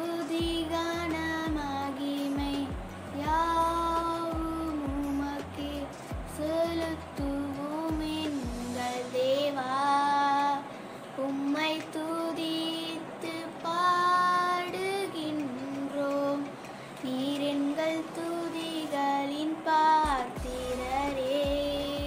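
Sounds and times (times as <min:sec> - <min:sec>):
girl singing: 0:00.0 - 0:22.0.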